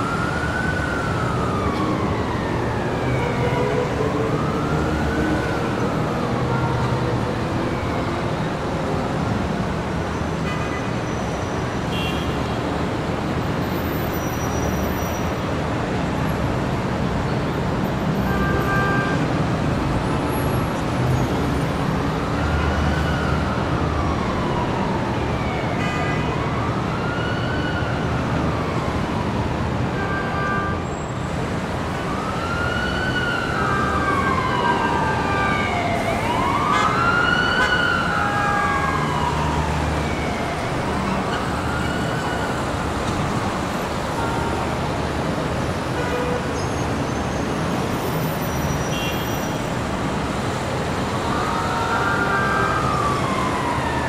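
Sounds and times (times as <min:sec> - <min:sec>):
emergency siren wailing: 0:00.0 - 0:10.4, 0:11.2 - 0:54.0
city traffic: 0:00.0 - 0:54.0.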